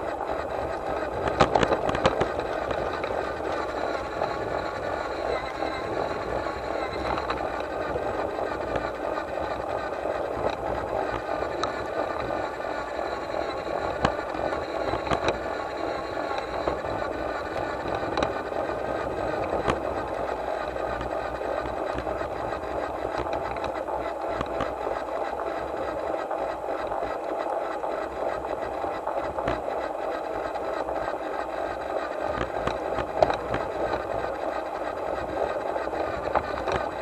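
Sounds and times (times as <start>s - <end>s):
model locomotive whirring: 0.0s - 37.0s.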